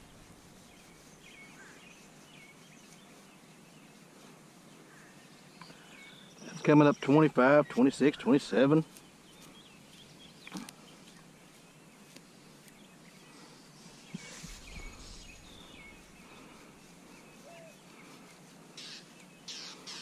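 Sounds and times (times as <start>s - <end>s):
distant small birds chirping: 0.0s - 20.0s
rustle: 0.0s - 20.0s.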